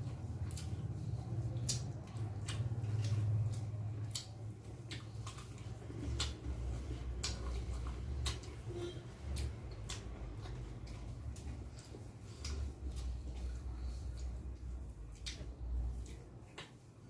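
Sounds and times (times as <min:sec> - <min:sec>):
steady low hum: 0:00.0 - 0:17.0
wet chewing and lip-smacking: 0:00.0 - 0:17.0.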